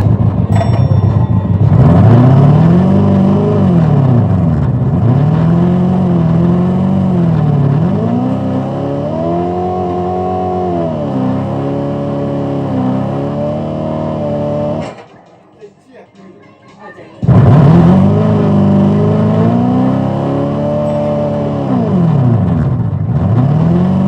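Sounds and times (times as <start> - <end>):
arcade game engine revving: 1.4 - 15.3, 17.2 - 24.0.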